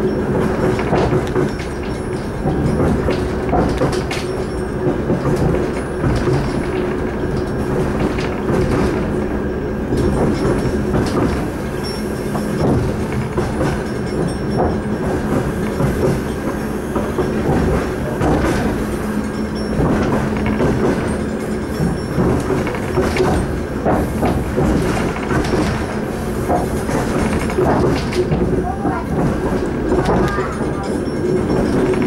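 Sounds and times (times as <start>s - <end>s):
wheels clicking over rail joints: 0.0s - 32.0s
wheels rumbling on rails: 0.0s - 32.0s.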